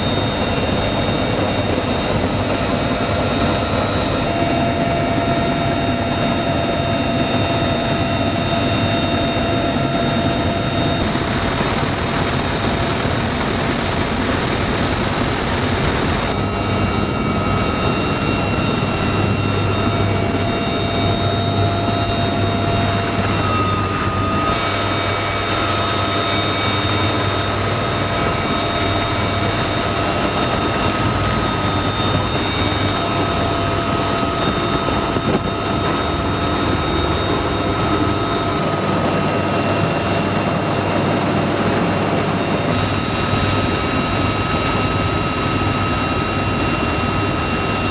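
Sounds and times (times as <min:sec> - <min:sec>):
helicopter rotor and turbine rumble: 0:00.0 - 0:47.9.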